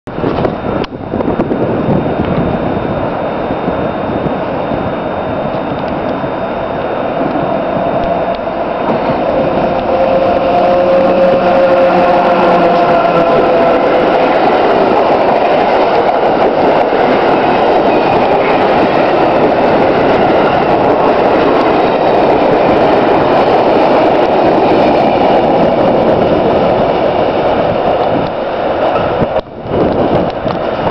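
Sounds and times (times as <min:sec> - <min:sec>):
locomotive whine: 0:00.1 - 0:30.9
train rushing past: 0:00.1 - 0:30.9.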